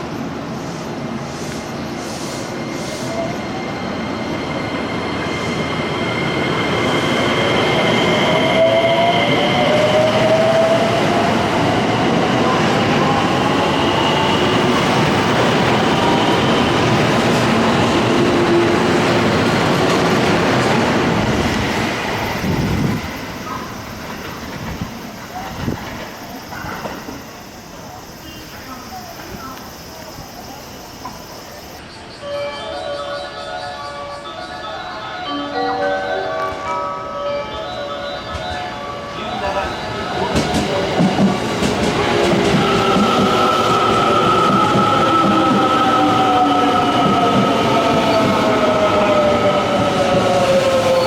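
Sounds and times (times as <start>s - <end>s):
train wheels on rails: 0.0s - 31.8s, 38.0s - 51.0s.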